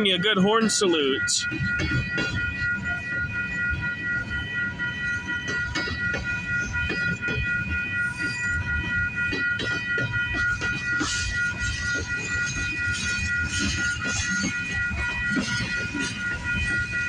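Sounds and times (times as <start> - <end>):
high-pitched ringing tone: 0.0 - 17.0.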